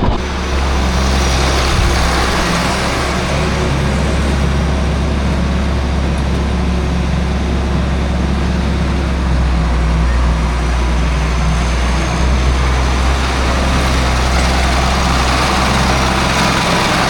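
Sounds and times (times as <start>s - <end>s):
large engine running: 0.0s - 17.0s.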